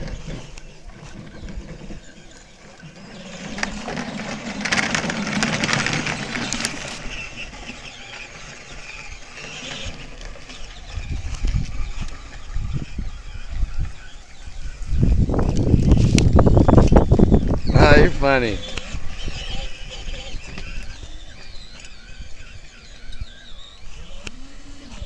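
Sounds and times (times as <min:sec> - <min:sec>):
tires crunching dirt and leaves: 0:00.0 - 0:22.6
electric motors whining: 0:00.0 - 0:25.0.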